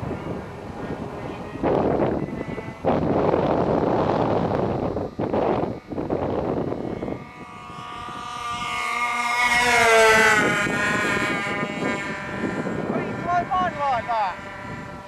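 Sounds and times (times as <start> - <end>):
model airplane engines whining: 0.0 - 15.0
wind buffeting microphone: 0.0 - 15.0.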